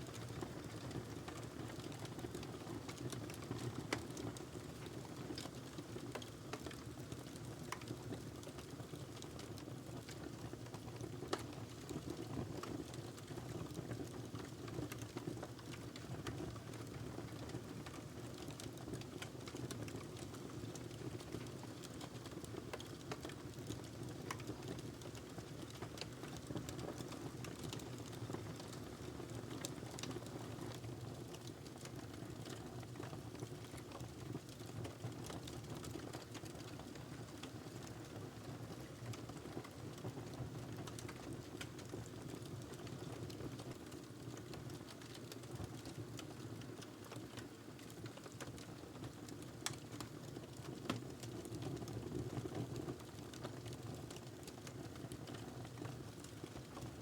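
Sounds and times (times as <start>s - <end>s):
wood fire crackling: 1.4s - 12.7s, 13.4s - 30.2s, 31.2s - 38.2s, 39.0s - 56.9s.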